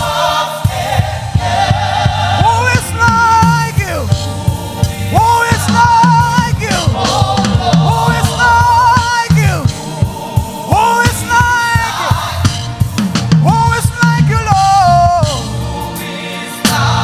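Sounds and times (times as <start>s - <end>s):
bass line: 0.0s - 16.0s
drum kit: 0.0s - 17.0s.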